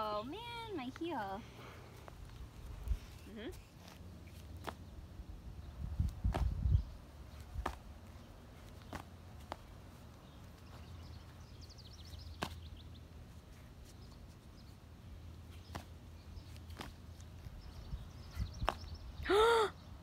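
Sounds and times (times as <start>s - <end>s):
sandals slapping on asphalt: 0.7s - 19.2s.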